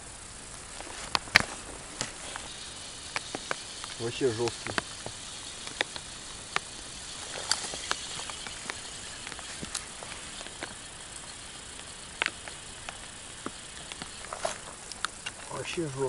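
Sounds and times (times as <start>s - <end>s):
steady faint hiss: 0.0s - 16.0s.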